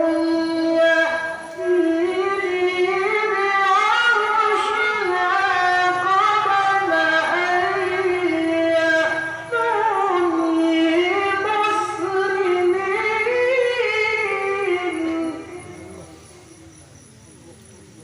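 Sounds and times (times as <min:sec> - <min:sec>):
person chanting in high register: 0:00.0 - 0:18.0.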